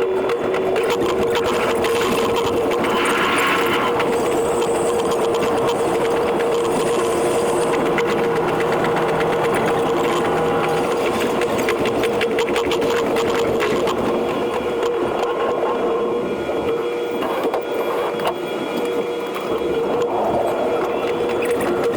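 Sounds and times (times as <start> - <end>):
fast clatter of train wheels: 0.0 - 21.9
steady train hum: 0.0 - 21.9.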